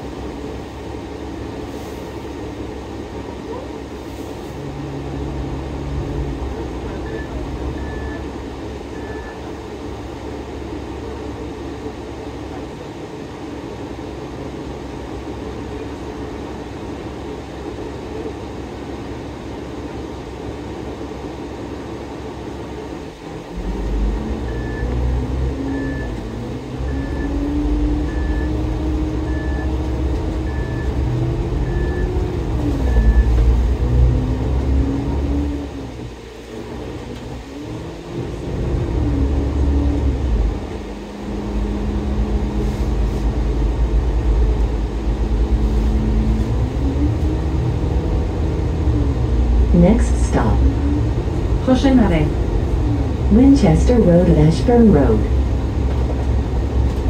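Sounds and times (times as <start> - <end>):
bus diesel engine idling and revving: 0.0 - 57.0.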